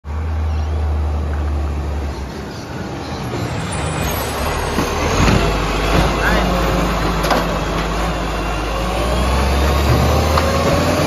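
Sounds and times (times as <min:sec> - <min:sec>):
garbage truck diesel engine: 0:00.0 - 0:11.0.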